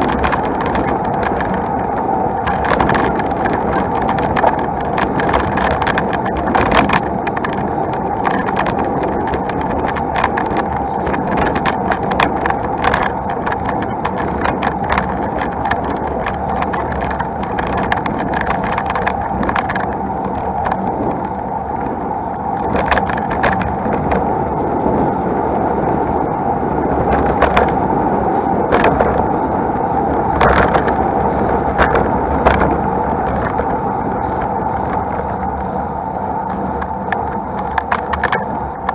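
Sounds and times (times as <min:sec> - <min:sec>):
bike rattles and clicks: 0:00.0 - 0:38.9
road noise: 0:00.0 - 0:38.9
wind noise: 0:00.0 - 0:38.9.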